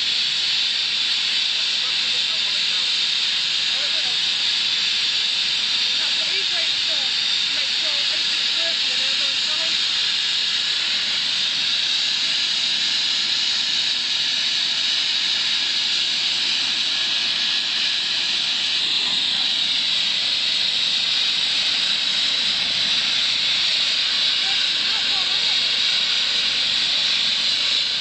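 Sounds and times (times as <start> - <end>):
helicopter turbine whine: 0.0 - 28.0.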